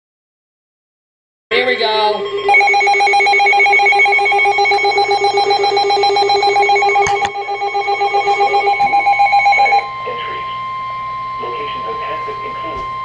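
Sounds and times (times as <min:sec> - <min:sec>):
weather radio alarm tone warbling: 0:01.5 - 0:13.0.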